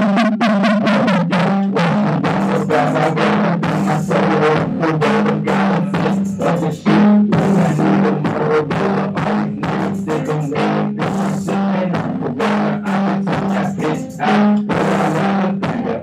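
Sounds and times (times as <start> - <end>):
music with drum beat and bass: 0.0 - 16.0.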